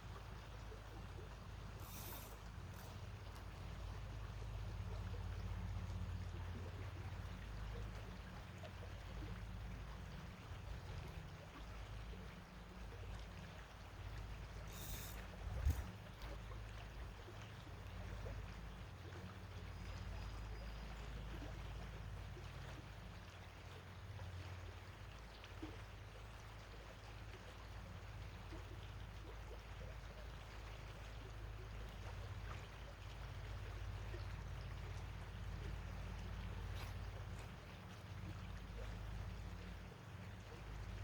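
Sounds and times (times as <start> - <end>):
flowing creek: 0.0 - 41.0.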